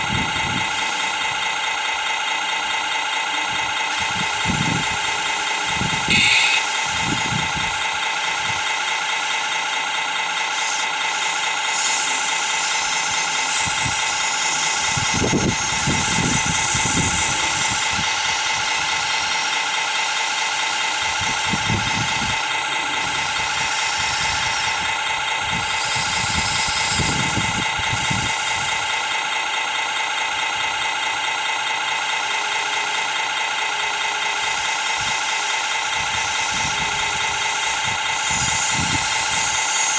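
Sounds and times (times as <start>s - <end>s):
high mechanical whine: 0.0s - 39.9s
low mechanical rumbles: 0.0s - 39.9s.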